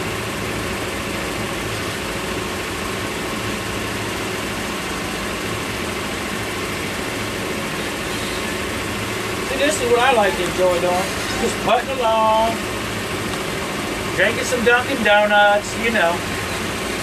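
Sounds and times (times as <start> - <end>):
motorboat engine humming: 0.0 - 17.0.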